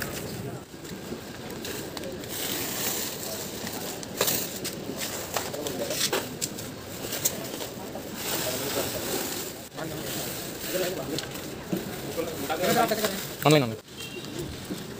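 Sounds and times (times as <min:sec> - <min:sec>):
sharp plastic crackles: 0:00.0 - 0:08.8, 0:09.4 - 0:14.9
plastic wrap rustling and crinkling: 0:00.0 - 0:13.7.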